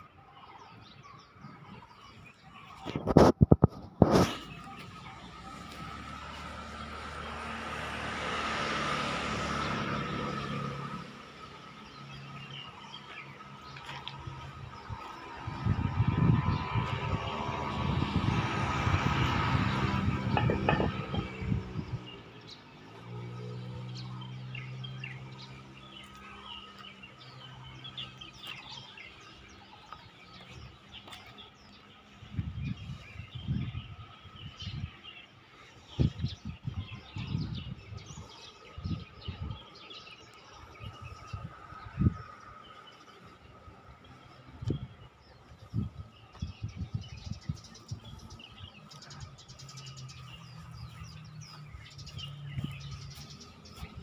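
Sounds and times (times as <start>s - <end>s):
small birds chirping: 0.0s - 54.0s
vehicle passing by: 4.0s - 54.0s.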